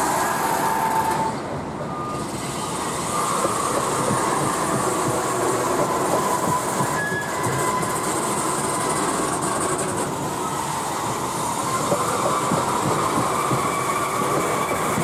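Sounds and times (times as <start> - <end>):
high wheel squealing: 0.0 - 15.0
train wheels rumbling on rails: 0.0 - 15.0
clacks over rail joints: 0.7 - 10.4, 11.2 - 15.0.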